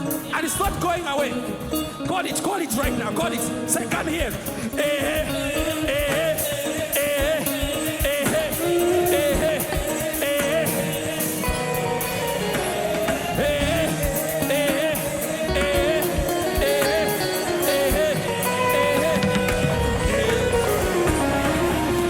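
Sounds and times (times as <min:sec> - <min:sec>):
band playing gospel music: 0:00.0 - 0:22.0
drums: 0:00.0 - 0:22.0
people singing: 0:00.0 - 0:22.0.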